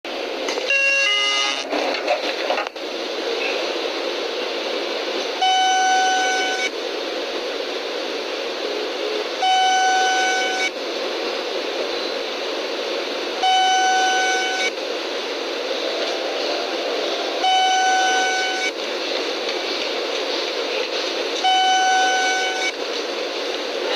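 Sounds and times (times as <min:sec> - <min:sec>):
train noise: 0:00.1 - 0:23.9.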